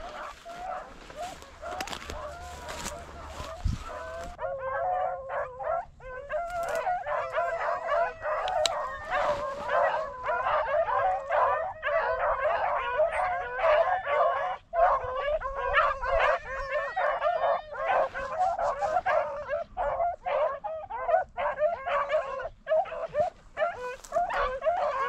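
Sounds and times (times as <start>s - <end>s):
dogs baying and howling: 0.0s - 25.0s.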